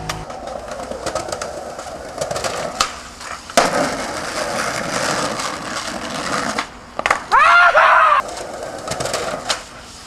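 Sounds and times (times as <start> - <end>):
skateboard sharp clack: 0.0 - 7.3, 8.2 - 9.7
skateboard wheels rolling on asphalt: 0.0 - 10.0.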